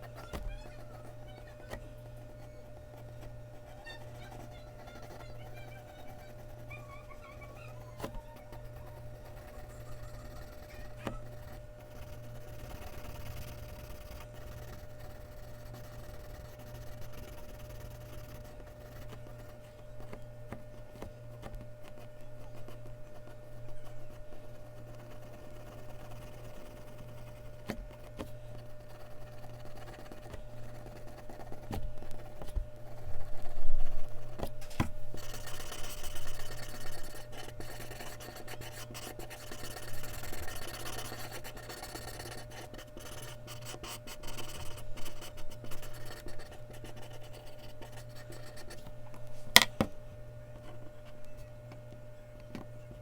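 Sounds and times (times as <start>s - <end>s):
pencil scratching on paper: 0.0s - 48.9s.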